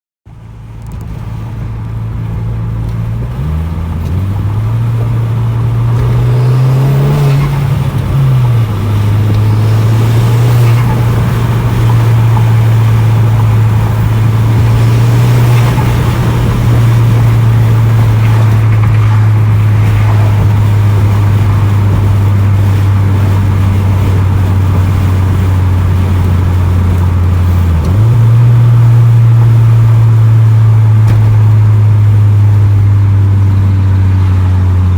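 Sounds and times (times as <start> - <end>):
car engine droning: 0.2 - 34.9.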